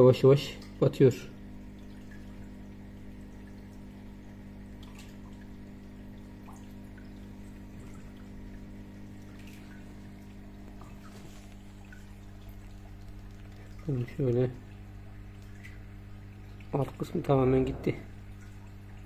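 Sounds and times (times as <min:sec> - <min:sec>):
aquarium pump hum: 0:00.0 - 0:19.0
water trickling and dripping: 0:00.0 - 0:19.0.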